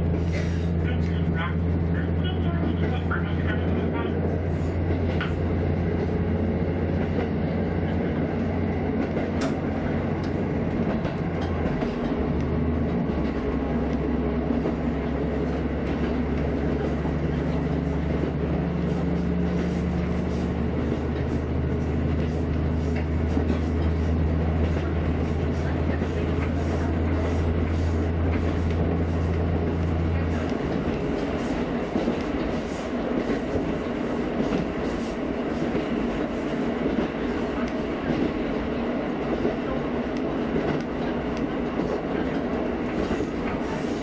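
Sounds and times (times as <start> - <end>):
diesel engine drone: 0.0 - 44.0
wheels rumbling on track: 0.0 - 44.0.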